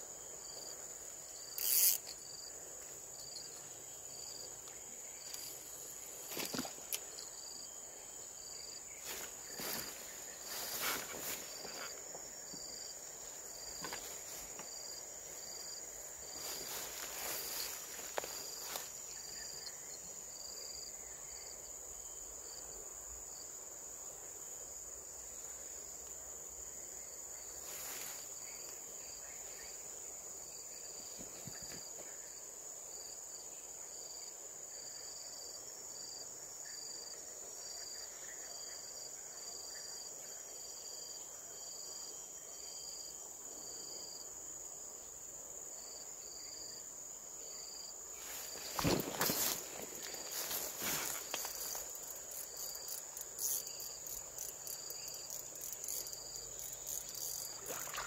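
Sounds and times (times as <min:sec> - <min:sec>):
insect chirping pulses: 0:00.0 - 0:23.5, 0:24.4 - 0:58.0
insect high-pitched drone: 0:00.0 - 0:23.5, 0:26.4 - 0:58.0.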